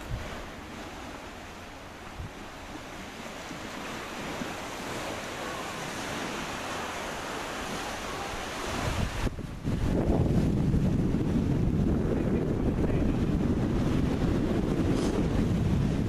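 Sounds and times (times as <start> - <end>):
sea surf washing against rocks: 0.0 - 16.0
wind: 0.0 - 16.0.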